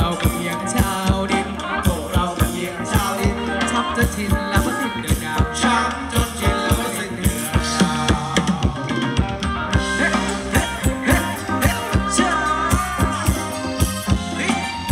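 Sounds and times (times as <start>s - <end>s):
live band dance music over loudspeakers: 0.0s - 14.9s
steady drum beat: 0.0s - 14.9s.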